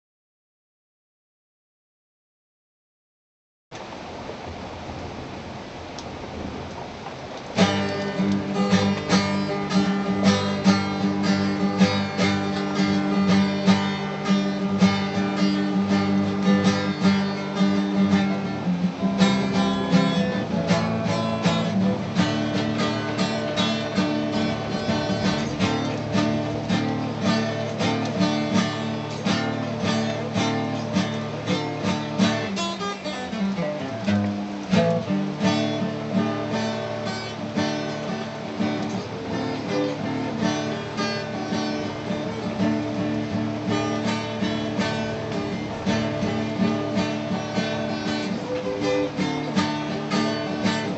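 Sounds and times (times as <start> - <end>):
faint hiss: 3.8 - 50.9
acoustic guitar strumming chords: 4.3 - 50.9.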